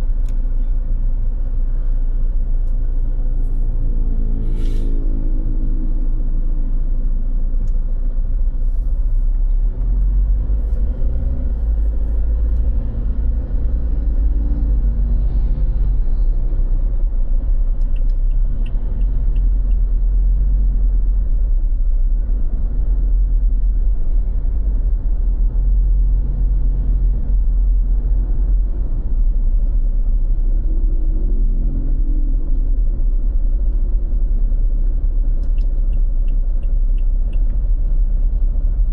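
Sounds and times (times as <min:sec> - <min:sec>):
low rumble with droning hum: 0:00.0 - 0:38.9.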